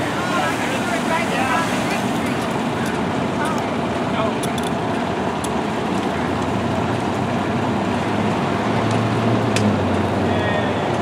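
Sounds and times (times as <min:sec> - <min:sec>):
traffic: 0:00.0 - 0:11.0
vehicle engines idling: 0:00.0 - 0:11.0.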